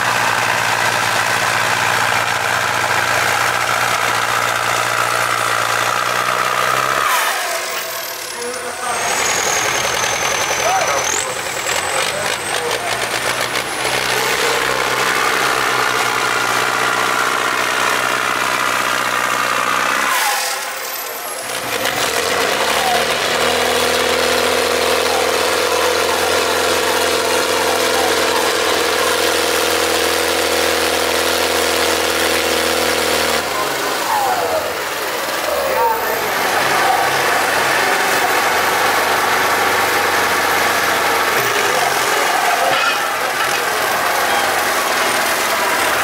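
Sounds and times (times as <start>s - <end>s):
tractor diesel engine revving: 0.0s - 46.0s.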